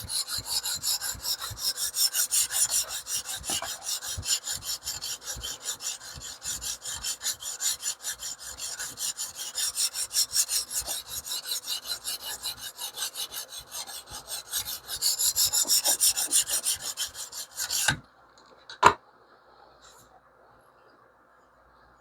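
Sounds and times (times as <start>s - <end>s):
sharpening stone rasping on steel: 0.0s - 18.0s.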